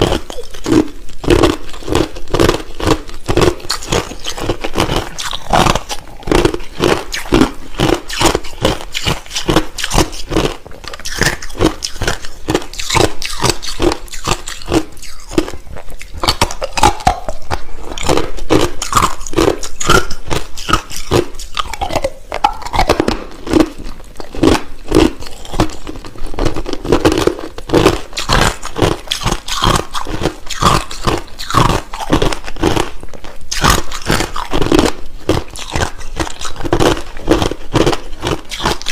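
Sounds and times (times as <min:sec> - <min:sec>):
chewing crushed ice crunches: 0:00.0 - 0:38.9.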